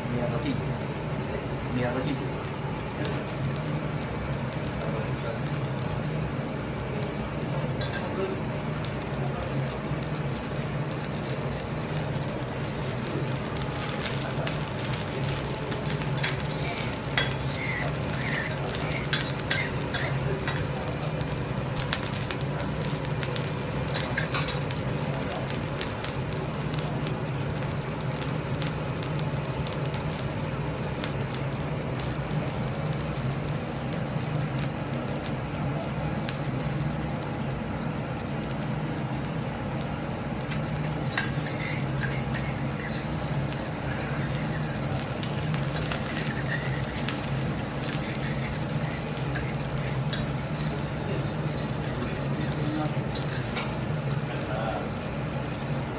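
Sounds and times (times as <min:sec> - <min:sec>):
low steady hum: 0:00.0 - 0:55.9
steak sizzling on griddle: 0:00.0 - 0:55.9
fat crackling: 0:00.8 - 0:55.9.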